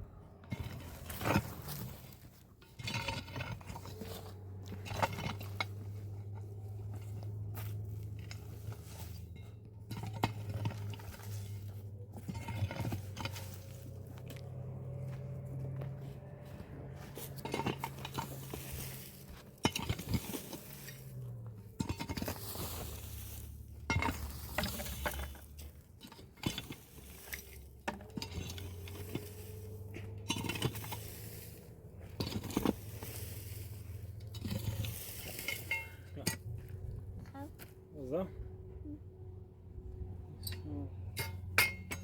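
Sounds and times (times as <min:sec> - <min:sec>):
hard objects clinking and scraping: 0:00.2 - 0:37.0.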